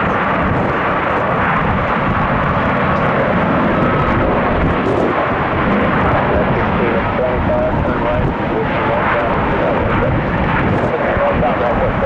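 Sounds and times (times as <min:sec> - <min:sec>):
jet airliner engines running: 0:00.0 - 0:12.0.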